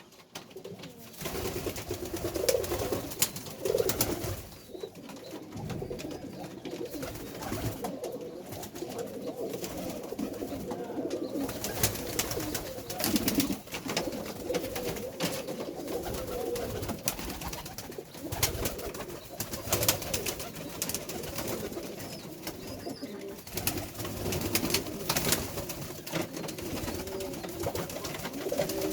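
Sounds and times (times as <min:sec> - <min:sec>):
pigeons cooing: 0:00.6 - 0:28.9.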